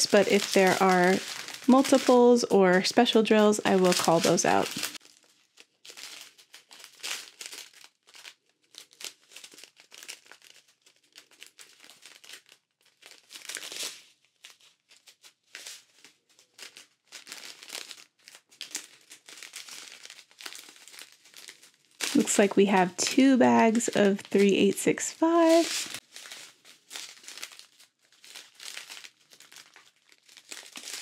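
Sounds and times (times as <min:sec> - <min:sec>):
plastic packets crinkling: 0:00.0 - 0:31.0.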